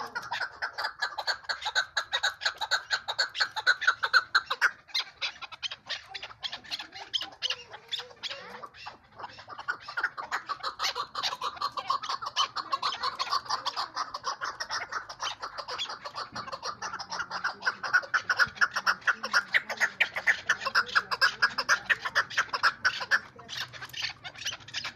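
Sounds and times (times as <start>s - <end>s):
partridge calling: 0.0s - 24.9s.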